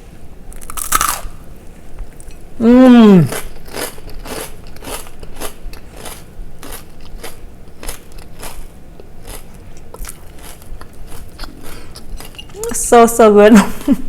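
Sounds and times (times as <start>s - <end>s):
person chewing crunchy cracker: 0.5s - 1.5s, 2.1s - 12.6s.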